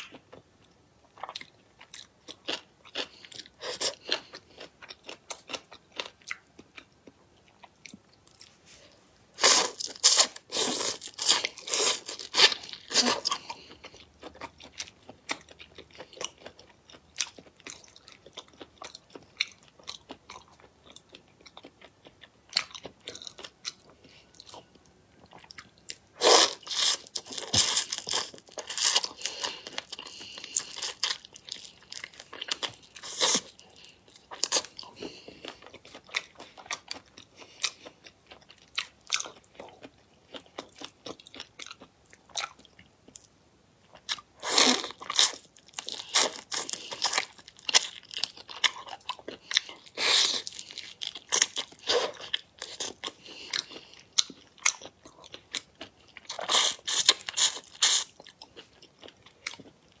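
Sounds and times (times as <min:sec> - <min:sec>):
crunching and chewing shrimp: 0:00.0 - 1:00.0.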